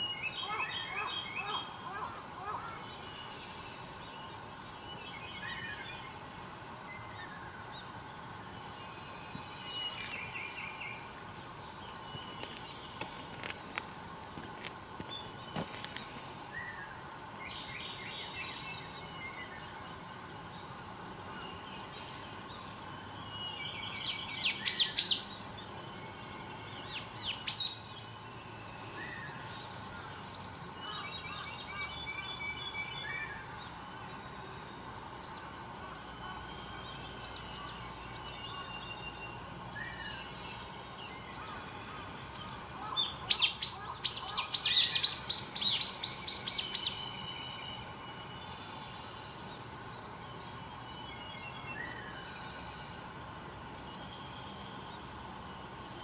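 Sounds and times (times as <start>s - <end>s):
wild birds calling and singing: 0.0s - 14.2s, 15.0s - 56.0s.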